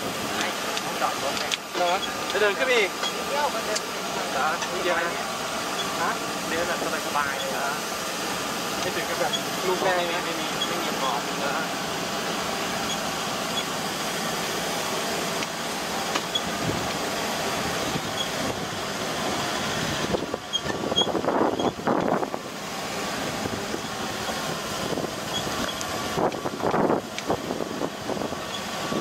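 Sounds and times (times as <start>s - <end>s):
truck engine and road noise: 0.0s - 29.0s.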